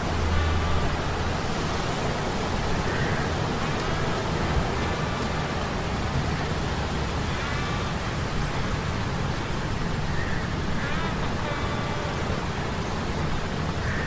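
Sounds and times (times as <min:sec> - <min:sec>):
rushing wind: 0:00.0 - 0:14.0
steady rain: 0:00.0 - 0:14.0.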